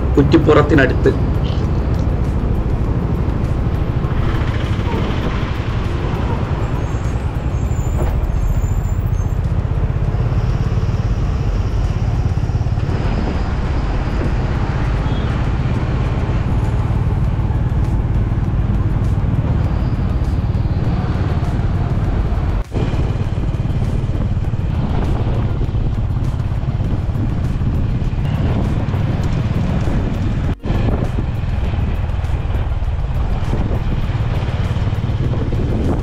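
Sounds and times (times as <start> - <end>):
road and engine rumble: 0.0 - 36.0.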